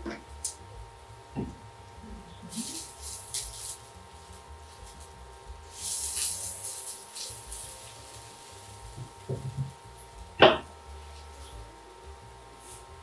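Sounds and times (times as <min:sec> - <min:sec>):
hiss of frying: 0:02.4 - 0:13.0.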